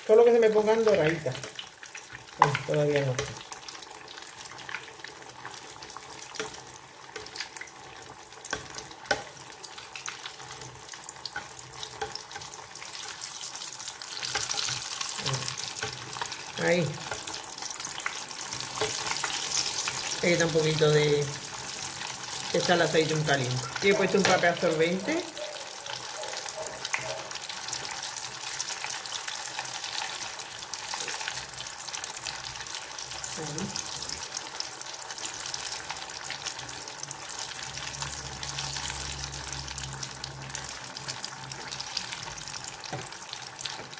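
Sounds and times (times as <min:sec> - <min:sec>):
hot oil sizzling and crackling: 0:00.0 - 0:43.9.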